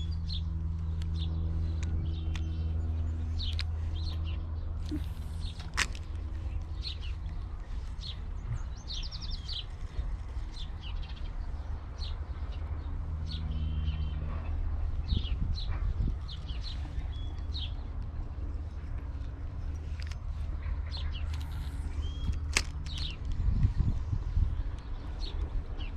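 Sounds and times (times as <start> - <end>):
low steady drone: 0.0 - 25.9
songbirds chirping: 0.0 - 25.9.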